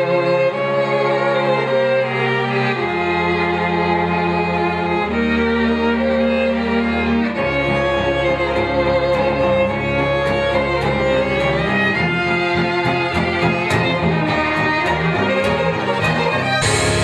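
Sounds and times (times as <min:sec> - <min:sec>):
cello ensemble playing held chords: 0:00.0 - 0:17.0.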